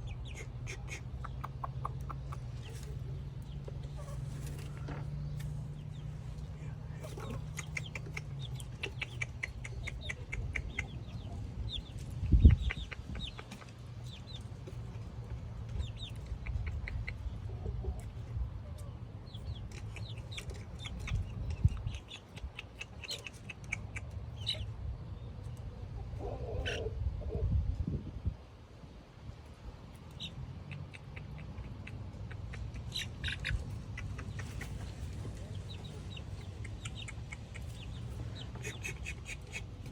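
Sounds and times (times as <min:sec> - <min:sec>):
chick peeps: 0:00.0 - 0:27.9, 0:29.4 - 0:39.9
chickens clucking: 0:00.0 - 0:27.9, 0:29.4 - 0:39.9
steady low rumble: 0:00.0 - 0:39.9.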